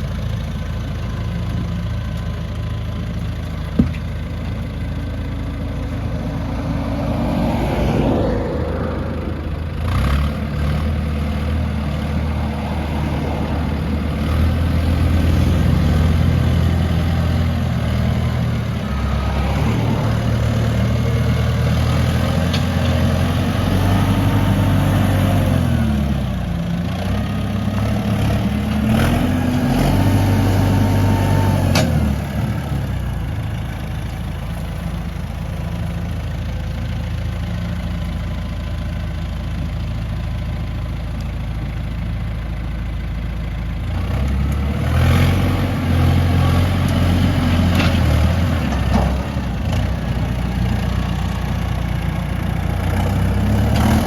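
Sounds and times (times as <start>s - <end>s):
diesel earthmoving machinery revving: 0.0s - 54.0s.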